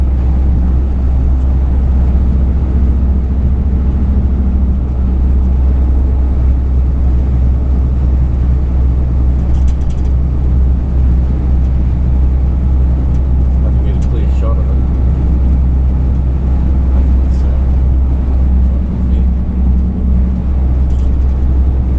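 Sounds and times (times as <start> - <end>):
faint engine hum: 0.0 - 21.9
truck engine rumble: 0.0 - 21.9.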